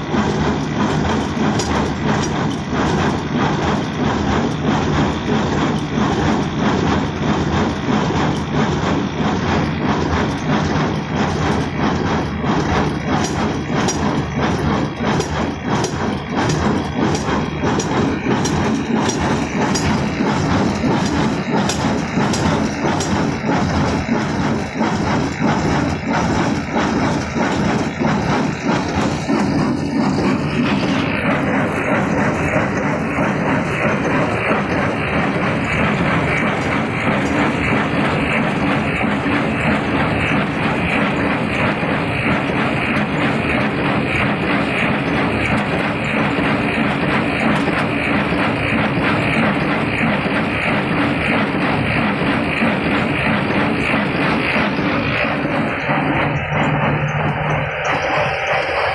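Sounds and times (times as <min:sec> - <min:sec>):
baler mechanism clacking: 0:00.0 - 0:58.9
engine hum: 0:00.0 - 0:58.9.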